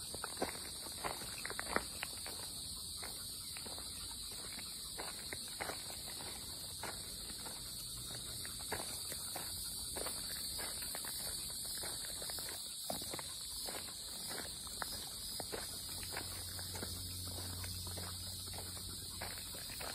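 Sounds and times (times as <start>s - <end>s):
footsteps on forest floor: 0.0s - 19.9s
insects chorus: 0.0s - 19.9s.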